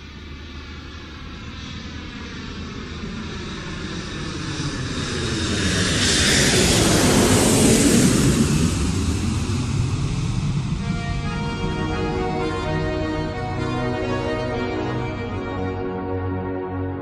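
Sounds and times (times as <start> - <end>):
high engine whine: 0.0 - 16.9
airliner engines on approach: 0.0 - 17.0.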